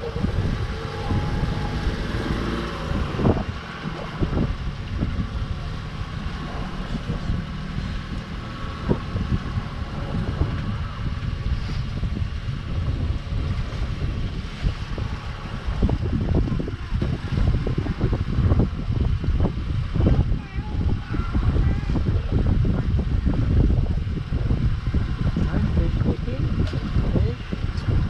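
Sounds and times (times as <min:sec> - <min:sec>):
boat engine running: 0:00.0 - 0:28.0
wind buffeting microphone: 0:00.0 - 0:28.0.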